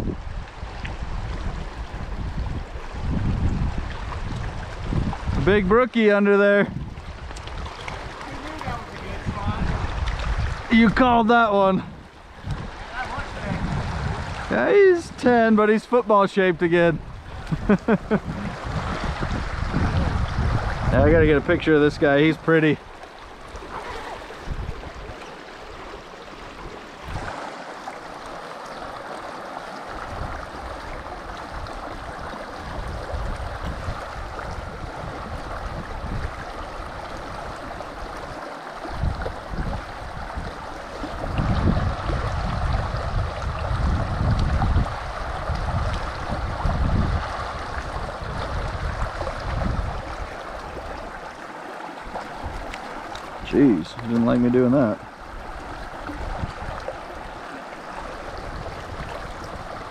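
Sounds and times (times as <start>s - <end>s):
creek rushing: 0.0s - 59.9s.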